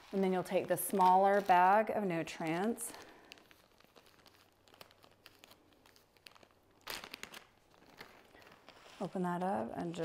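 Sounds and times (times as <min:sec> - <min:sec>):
bag crinkling: 0:00.0 - 0:09.2.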